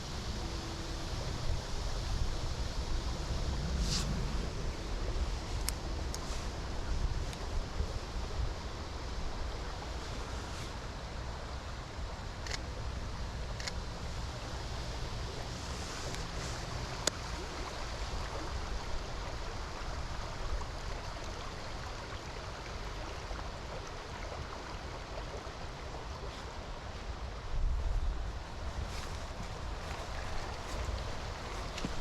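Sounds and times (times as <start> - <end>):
flowing river water: 0.0 - 32.0
wind rumble on microphone: 0.0 - 32.0.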